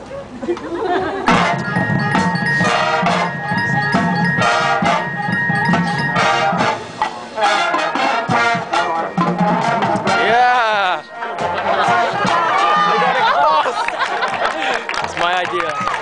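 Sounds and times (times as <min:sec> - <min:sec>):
marching band playing: 0:01.0 - 0:14.7.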